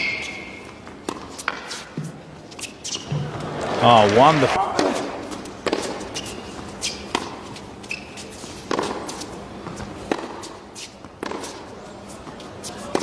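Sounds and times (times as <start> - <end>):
tennis racket strokes: 0.0 - 3.3, 4.6 - 13.0
shoes squeaking on court: 0.0 - 13.0.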